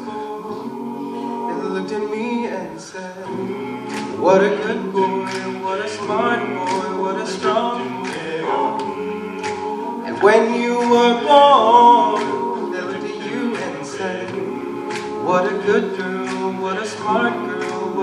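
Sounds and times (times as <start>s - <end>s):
lead singer on microphone: 0.0s - 18.0s
male group singing backing chords: 0.0s - 18.0s.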